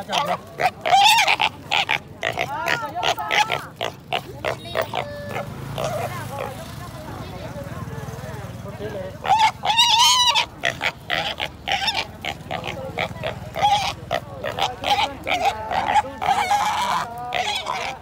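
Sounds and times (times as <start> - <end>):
piglet squealing: 0.0 - 6.5, 9.2 - 18.0.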